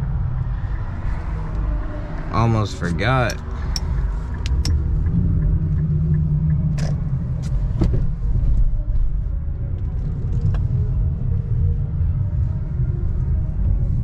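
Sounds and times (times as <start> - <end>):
engine and road noise rumble: 0.0 - 14.0.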